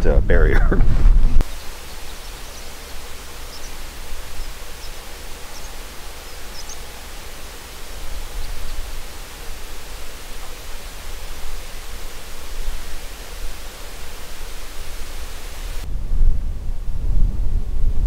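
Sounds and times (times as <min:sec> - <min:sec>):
wind buffeting microphone: 0:00.0 - 0:02.5, 0:03.5 - 0:18.0
wind rushing: 0:00.1 - 0:01.8, 0:03.1 - 0:18.0.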